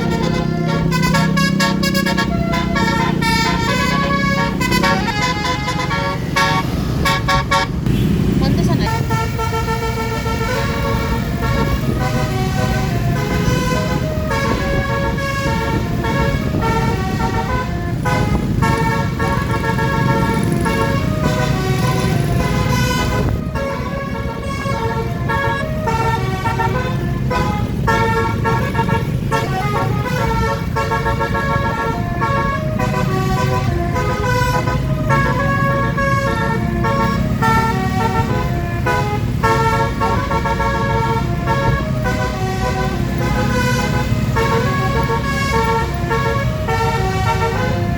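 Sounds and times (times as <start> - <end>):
bus horn playing a tune: 0.0 - 47.9
low engine rumble: 0.0 - 47.9.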